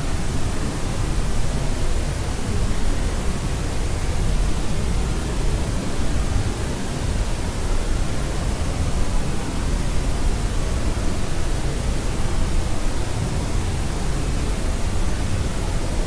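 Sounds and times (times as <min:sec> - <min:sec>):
steady pink noise: 0:00.0 - 0:16.0.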